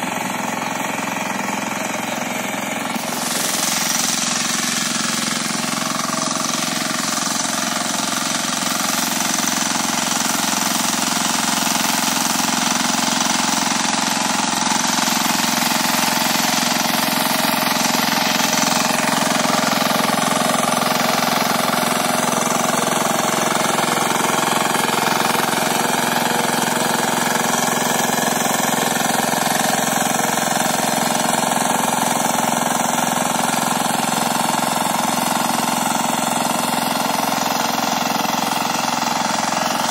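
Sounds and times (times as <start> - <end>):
diesel weeder churning soil: 0.0 - 39.9.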